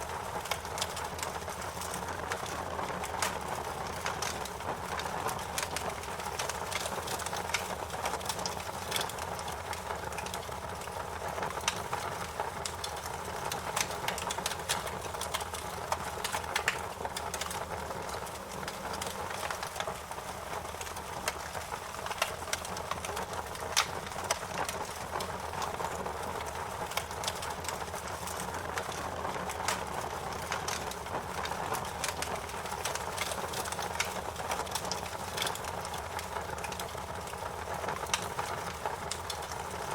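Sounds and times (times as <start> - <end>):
campfire crackles and pops: 0.0 - 39.9.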